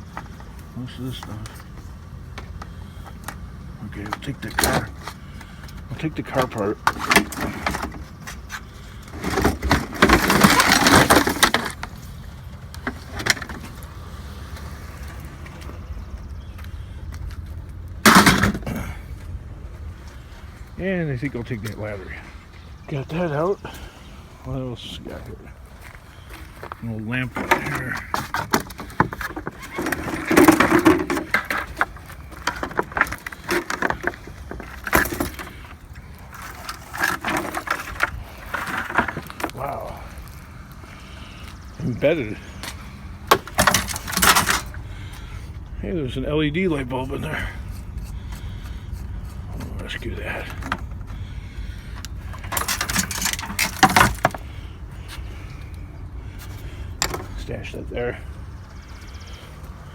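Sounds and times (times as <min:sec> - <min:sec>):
scrap rattling and scraping: 0:00.0 - 0:59.9.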